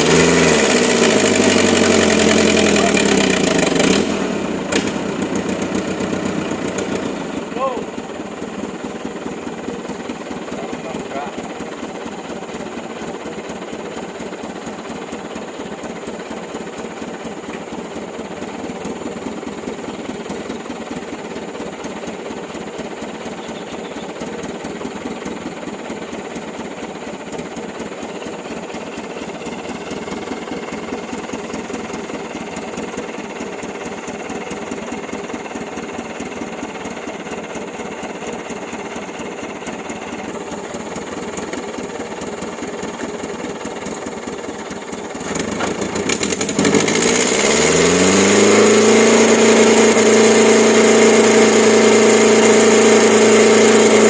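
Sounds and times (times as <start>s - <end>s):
diesel truck engine clattering: 0.0s - 54.0s.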